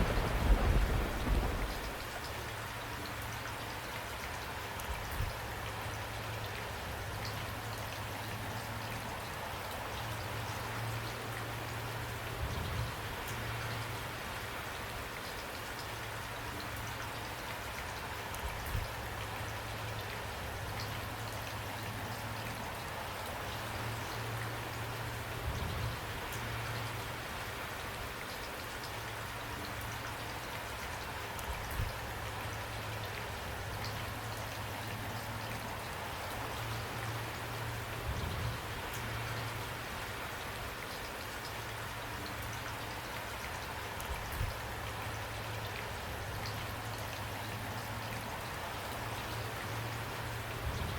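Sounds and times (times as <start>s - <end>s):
dense rainfall: 0.0s - 50.9s.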